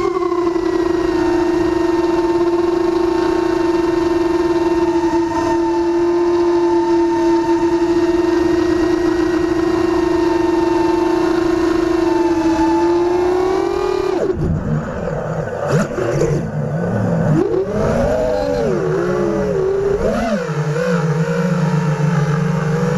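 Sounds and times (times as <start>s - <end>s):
quadcopter motors whining: 0.0s - 22.9s.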